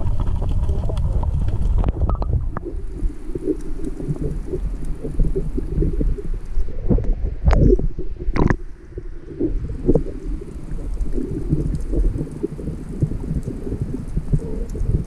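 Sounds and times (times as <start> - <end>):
muffled water sloshing: 0.0 - 15.0.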